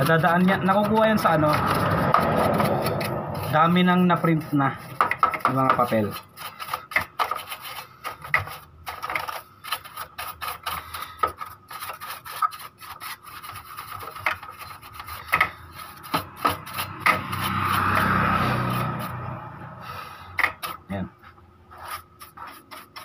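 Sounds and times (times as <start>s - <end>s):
brush bristles scrubbing plastic: 0.0s - 19.2s, 21.7s - 23.0s.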